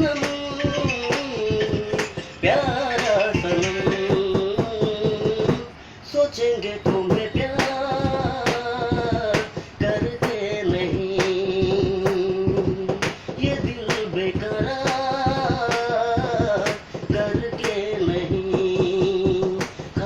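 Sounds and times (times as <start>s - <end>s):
man singing: 0.0s - 20.0s.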